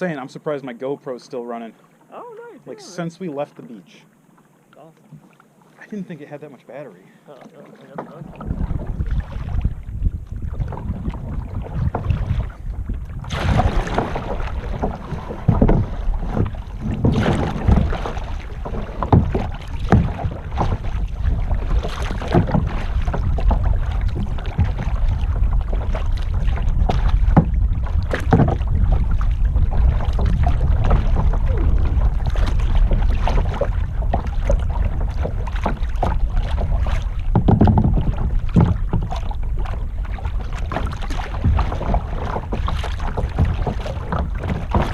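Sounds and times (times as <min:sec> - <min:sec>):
paddle strokes splashing water: 0:00.0 - 0:44.9
wind rumble on microphone: 0:08.2 - 0:44.9.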